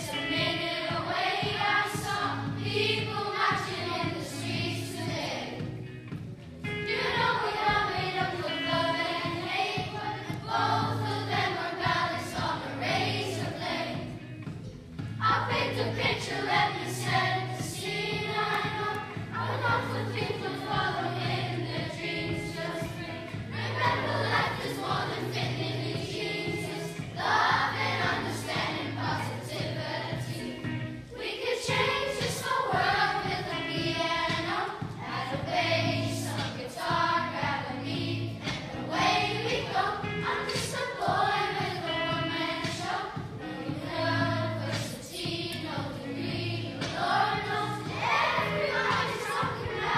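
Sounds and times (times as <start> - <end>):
children singing as a choir: 0.0 - 5.8, 6.9 - 14.2, 15.2 - 49.9
instrumental accompaniment bass notes: 0.3 - 49.9.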